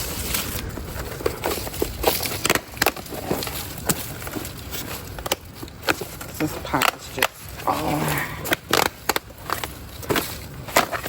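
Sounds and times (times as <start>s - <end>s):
crackles and clicks of handling: 0.0s - 11.0s.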